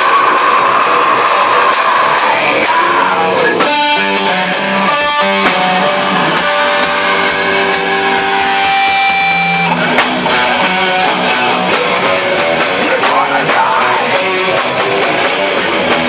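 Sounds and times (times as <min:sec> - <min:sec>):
drums and cymbals: 0:00.0 - 0:16.0
electric guitar chords: 0:00.0 - 0:16.0.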